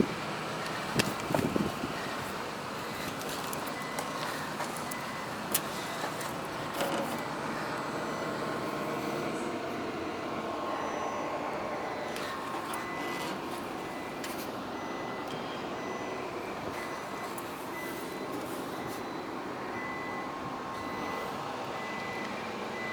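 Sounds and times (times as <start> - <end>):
diesel truck engine idling: 0.0 - 22.9.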